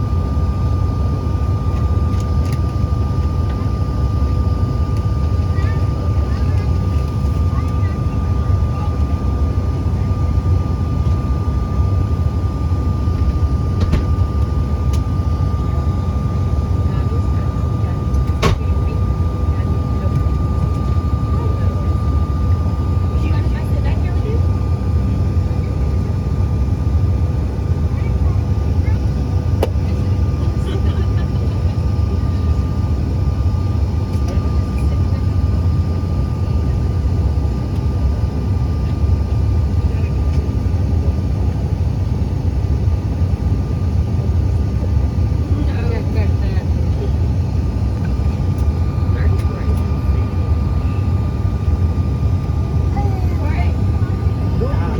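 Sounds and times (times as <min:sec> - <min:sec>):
airliner cabin low rumble: 0:00.0 - 0:54.9
high engine whine: 0:00.0 - 0:54.9.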